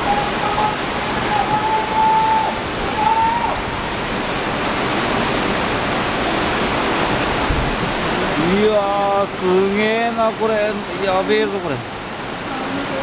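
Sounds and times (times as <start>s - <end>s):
floodwater roaring through street: 0.0s - 13.0s.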